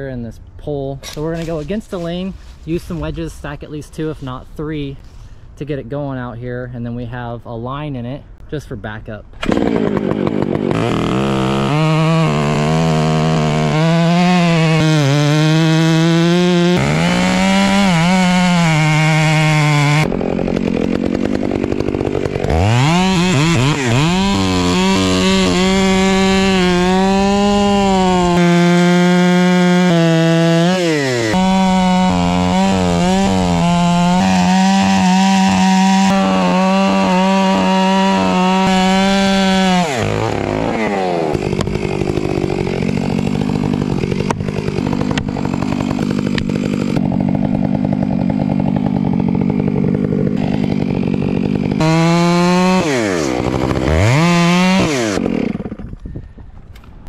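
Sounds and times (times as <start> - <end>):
chainsaw revving and cutting wood: 9.4 - 56.2.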